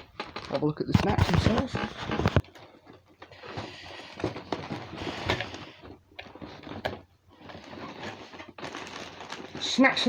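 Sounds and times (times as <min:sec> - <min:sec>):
snack packets rustling and crinkling: 0:00.0 - 0:10.0.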